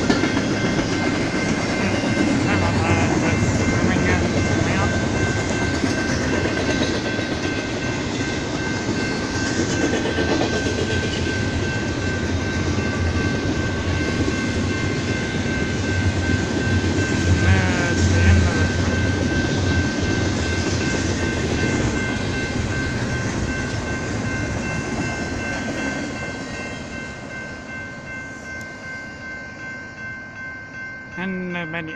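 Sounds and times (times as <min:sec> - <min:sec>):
train wheels rumbling on rail: 0:00.0 - 0:30.5.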